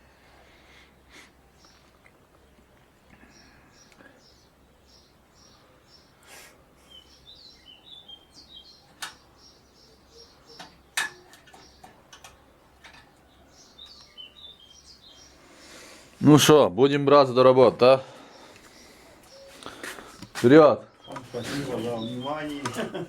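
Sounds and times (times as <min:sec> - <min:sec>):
small birds chirping: 0:00.0 - 0:16.4, 0:17.8 - 0:23.0.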